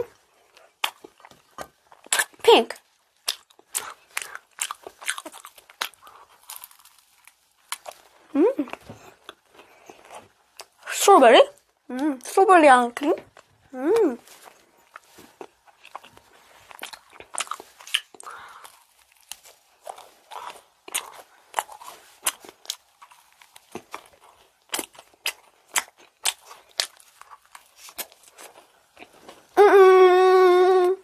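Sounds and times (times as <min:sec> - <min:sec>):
crisp chewing crunches: 0:00.0 - 0:10.9, 0:13.2 - 0:29.6.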